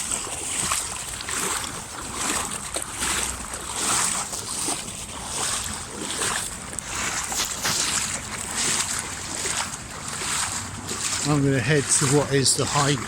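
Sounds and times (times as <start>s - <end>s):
water sloshing around wading legs: 0.0s - 13.0s.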